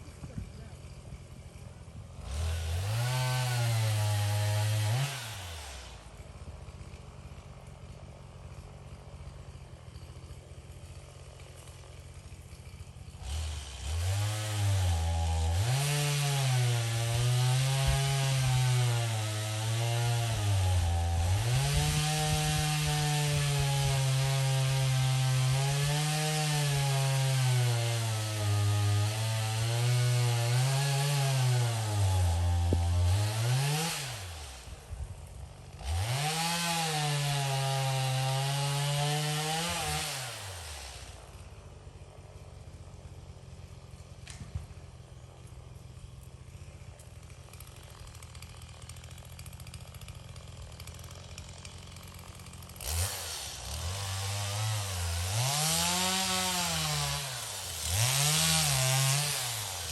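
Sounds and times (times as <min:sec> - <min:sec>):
chainsaw engine revving: 0:00.0 - 0:59.9.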